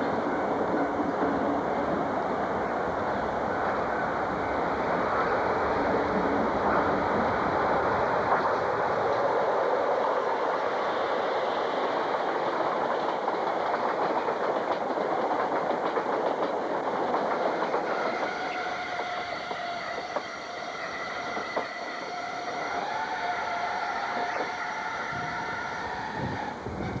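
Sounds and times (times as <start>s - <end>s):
train clattering over rails: 0.0s - 27.0s.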